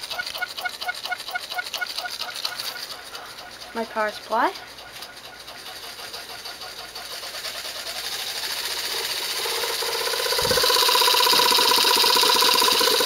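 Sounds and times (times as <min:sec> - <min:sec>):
air compressor pump chattering: 0:00.0 - 0:13.0.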